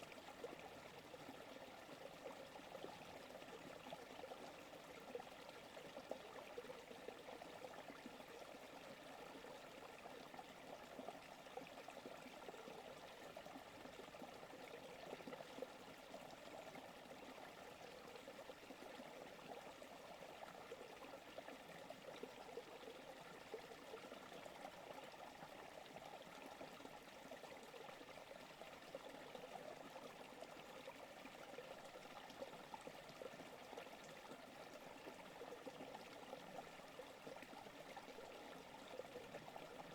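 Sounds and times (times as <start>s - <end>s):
creek flowing water: 0.0s - 39.9s.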